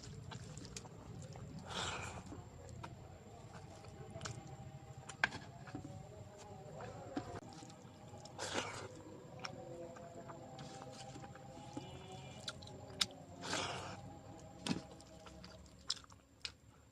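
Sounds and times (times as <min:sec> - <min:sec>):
wet chewing of food: 0:00.0 - 0:16.9.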